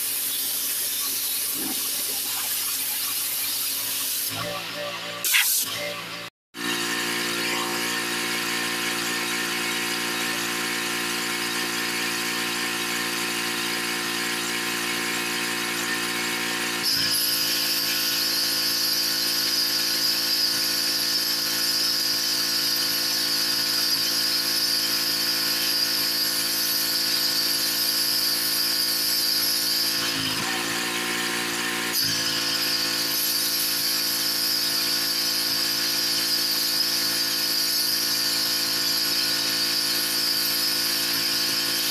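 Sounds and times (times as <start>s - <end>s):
pressure washer motor running: 0.0s - 41.9s.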